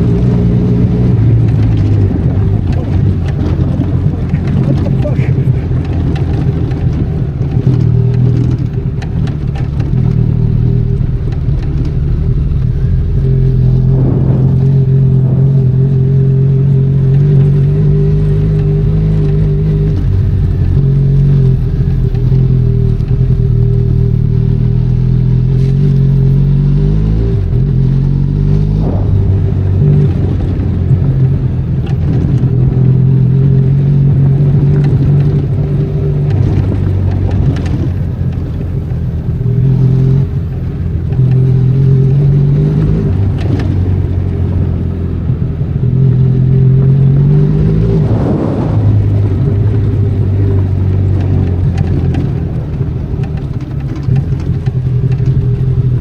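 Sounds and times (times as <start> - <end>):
motorcycle clattering over rough ground: 0.0 - 24.8, 28.7 - 56.0
motorcycle engine revving: 0.0 - 56.0.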